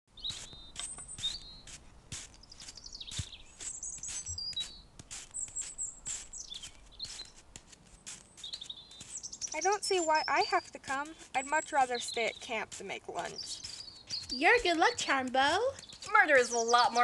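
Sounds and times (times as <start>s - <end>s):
birds whistling and chirping: 0.1s - 1.8s, 2.4s - 7.4s, 8.0s - 12.5s, 13.2s - 17.0s.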